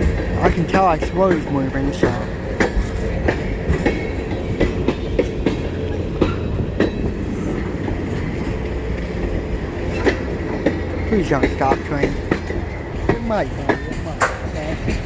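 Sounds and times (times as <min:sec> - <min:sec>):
freight train low rumble: 0:00.0 - 0:15.0
wheels clicking over rail joints: 0:00.0 - 0:15.0.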